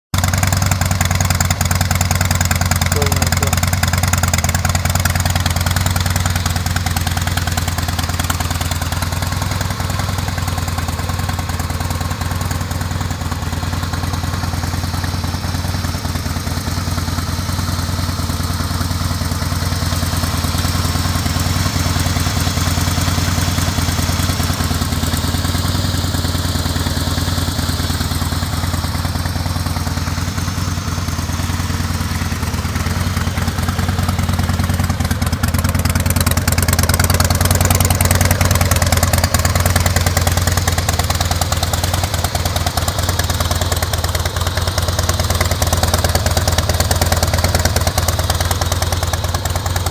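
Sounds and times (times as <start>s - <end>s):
motorcycle engine idling: 0.2s - 49.9s.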